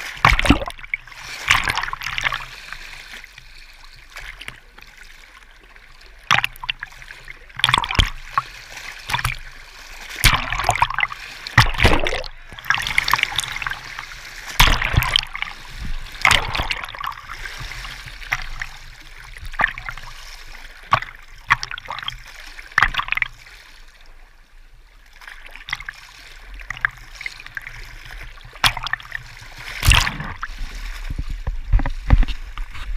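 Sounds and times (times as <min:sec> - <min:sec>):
small waves splashing: 0:00.0 - 0:32.9.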